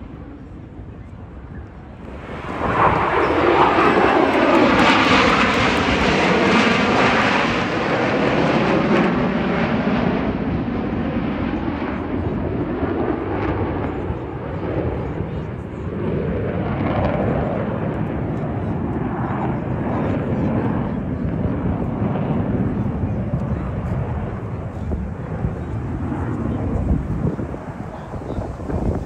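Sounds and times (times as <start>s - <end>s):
aircraft engine roar: 0.0s - 29.0s.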